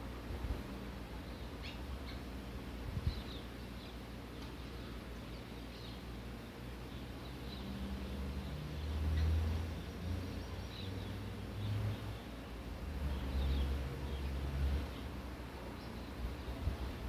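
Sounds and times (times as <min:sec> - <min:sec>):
steady low hum: 0:00.0 - 0:17.0
small birds chirping: 0:01.1 - 0:17.0.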